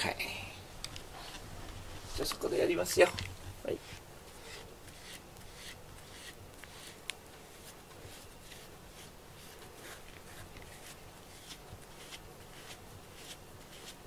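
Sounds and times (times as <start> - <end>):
brush raking through cat fur: 2.0 - 14.0.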